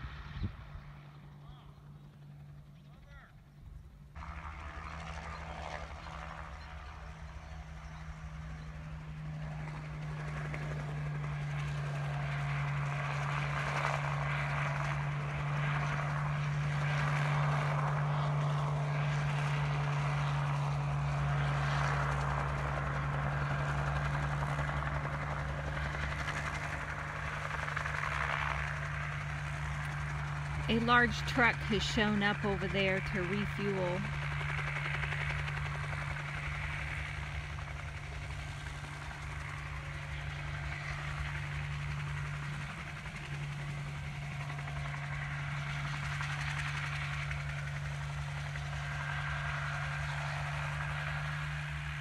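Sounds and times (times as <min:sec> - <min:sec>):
helicopter running: 0:00.0 - 0:52.0.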